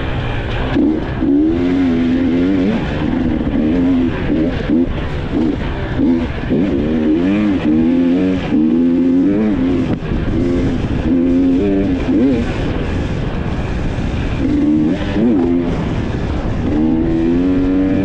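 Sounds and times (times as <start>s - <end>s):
two-stroke motorbike engine revving: 0.0s - 18.0s.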